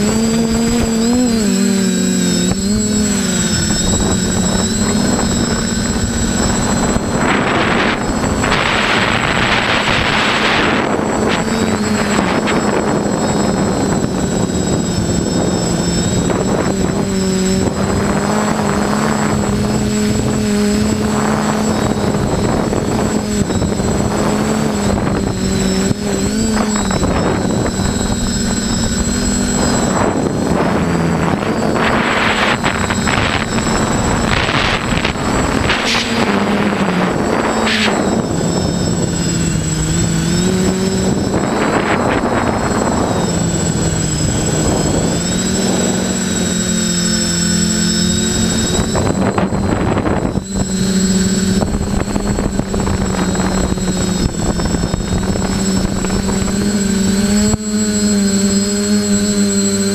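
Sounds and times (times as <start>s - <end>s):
drone motors humming: 0.0s - 59.9s
rushing bursts: 0.0s - 59.9s.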